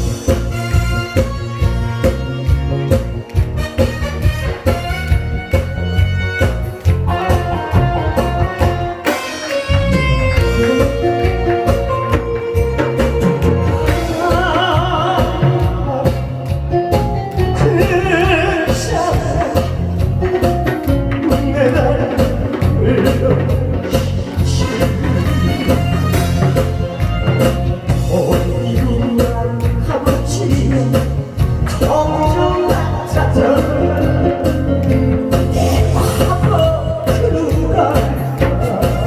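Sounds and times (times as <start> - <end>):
backing track with drum beat: 0.0 - 39.0
person singing with vibrato: 5.4 - 39.0.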